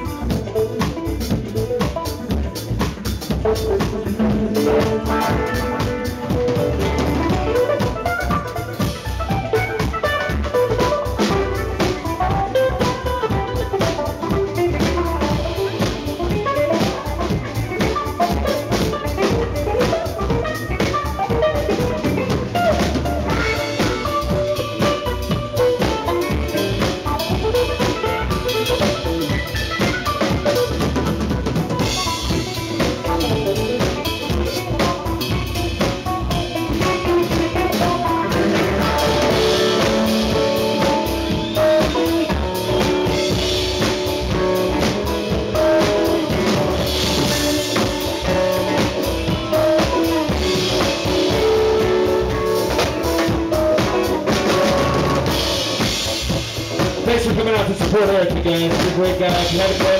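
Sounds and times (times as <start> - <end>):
drum kit playing: 0.0 - 59.9
electric bass: 0.0 - 59.9.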